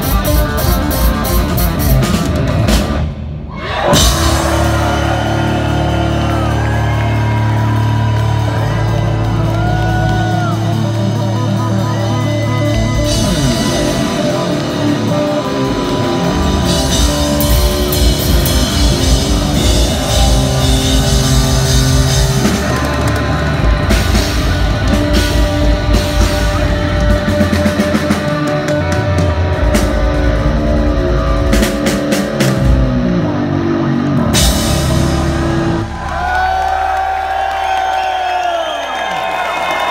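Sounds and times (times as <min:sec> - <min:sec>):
drums with fast kick-drum: 0:00.0 - 0:10.9, 0:12.7 - 0:33.2, 0:34.2 - 0:37.3
electric guitar and bass: 0:00.0 - 0:37.8.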